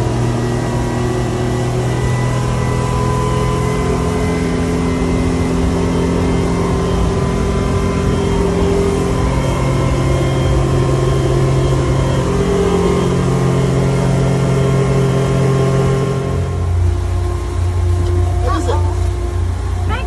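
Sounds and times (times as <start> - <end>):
outboard motor running: 0.0 - 20.0
wind and water rushing: 0.0 - 20.0.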